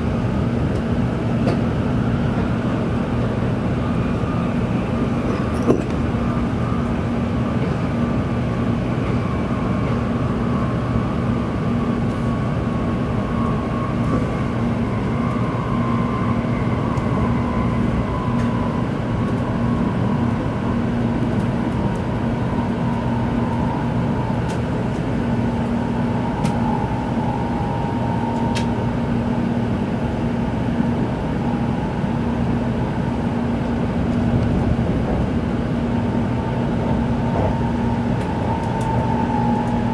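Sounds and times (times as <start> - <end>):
train cabin rumble and hum: 0.0 - 39.9.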